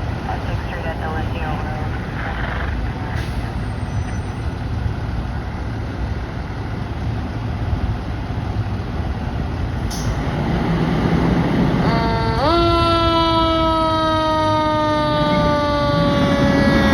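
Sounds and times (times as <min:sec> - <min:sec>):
fire engine engine rumbling: 0:00.0 - 0:16.9.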